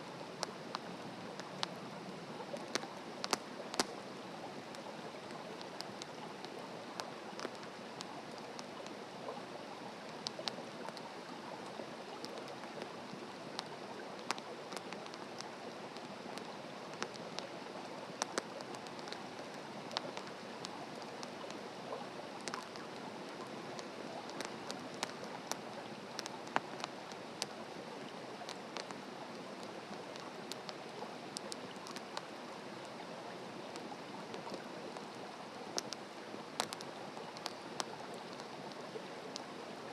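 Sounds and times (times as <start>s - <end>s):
campfire crackling and hissing: 0.0s - 39.9s.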